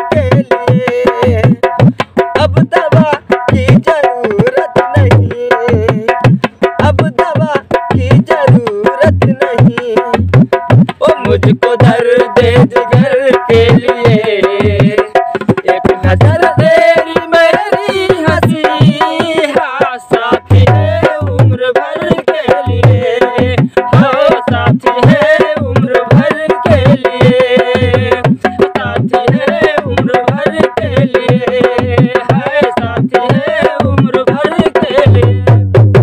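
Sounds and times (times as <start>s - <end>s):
man singing: 0.0s - 35.8s
hand drum folk rhythm: 0.0s - 36.0s.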